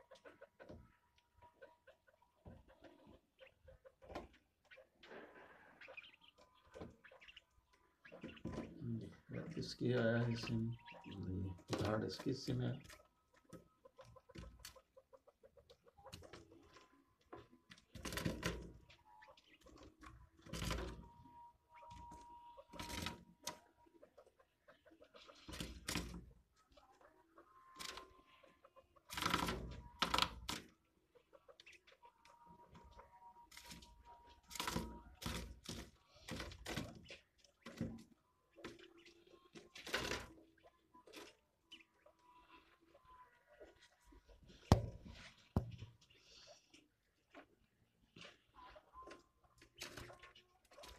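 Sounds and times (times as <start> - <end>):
birds pecking and scuffling: 0.0 - 50.9
quail clucking: 0.0 - 50.9.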